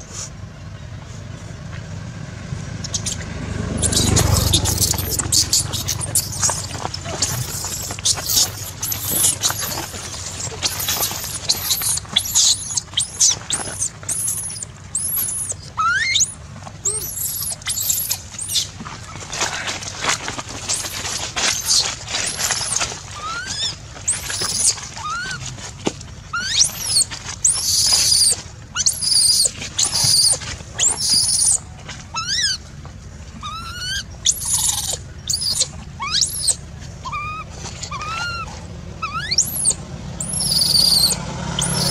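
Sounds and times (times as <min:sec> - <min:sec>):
infant monkey squealing: 0:02.8 - 0:32.7, 0:33.4 - 0:41.9.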